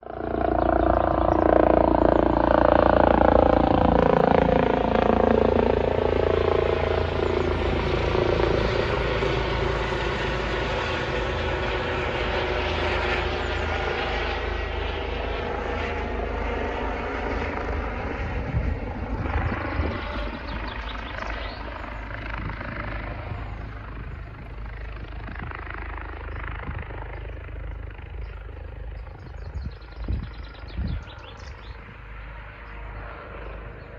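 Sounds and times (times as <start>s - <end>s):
helicopter flying overhead: 0.0s - 33.9s.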